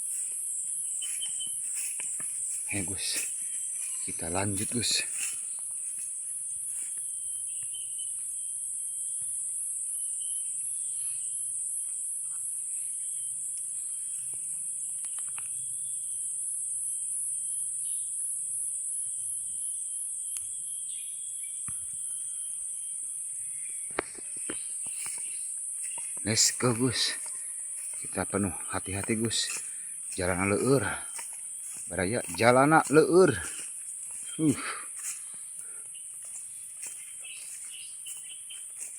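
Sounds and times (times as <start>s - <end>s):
insects shrill chorus: 0.0s - 38.9s.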